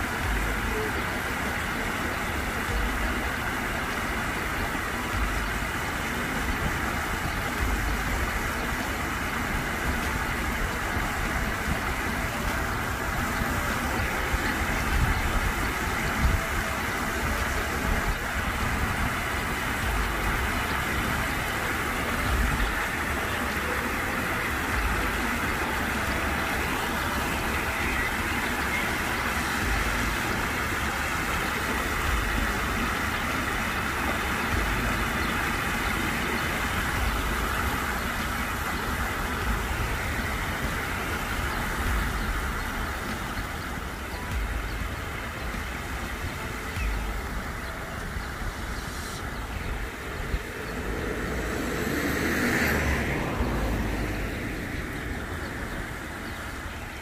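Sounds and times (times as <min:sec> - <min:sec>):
water rushing over weir: 0:00.0 - 0:57.0.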